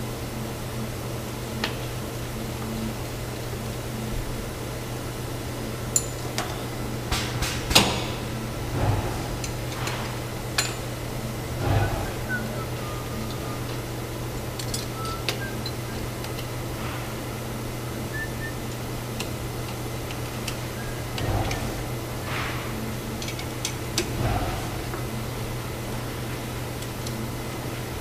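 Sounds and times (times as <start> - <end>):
factory machinery humming: 0.0 - 28.0.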